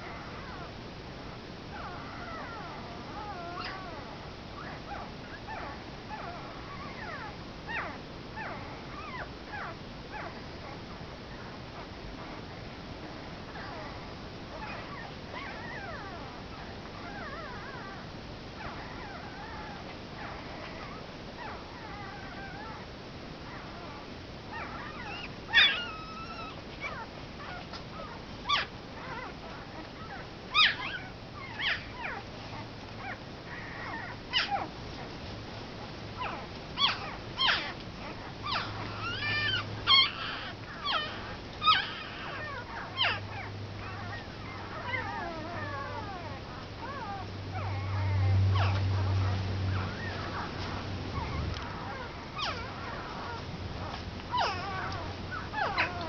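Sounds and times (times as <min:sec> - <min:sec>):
puppies whimpering and squealing: 0:00.0 - 0:00.8, 0:01.7 - 0:56.0.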